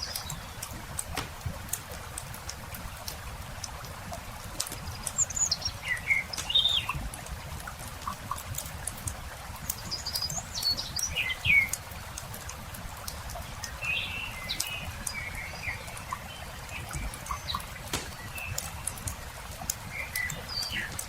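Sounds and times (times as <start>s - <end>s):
small birds chirping: 0.0s - 1.8s, 4.6s - 21.0s
campfire crackling and popping: 0.0s - 21.0s.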